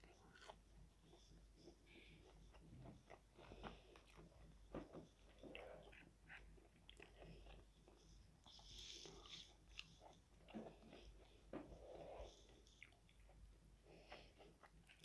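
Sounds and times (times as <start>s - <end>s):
chewing crispy fried food: 0.0s - 15.0s.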